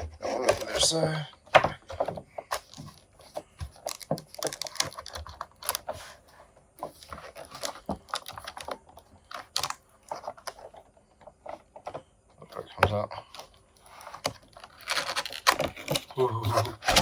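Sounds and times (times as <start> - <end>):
packaging clicks and crinkles: 1.8 - 6.2, 6.9 - 17.0.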